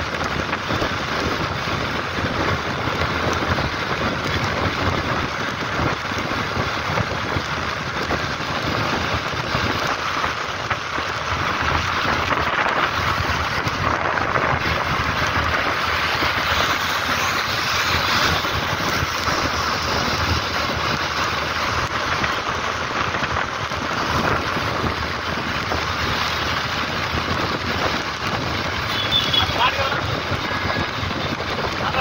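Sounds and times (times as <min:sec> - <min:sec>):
tyres hissing on wet road: 0:00.0 - 0:32.0
wind rushing over microphone: 0:00.0 - 0:32.0.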